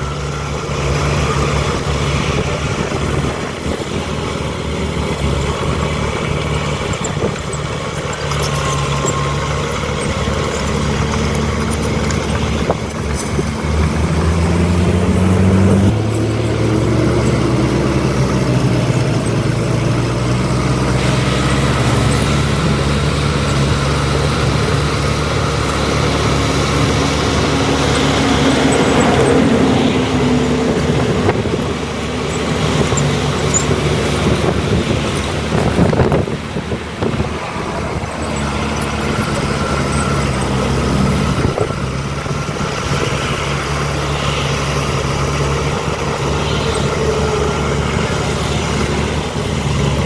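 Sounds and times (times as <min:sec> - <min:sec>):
heavy diesel engine revving: 0:00.0 - 0:50.0.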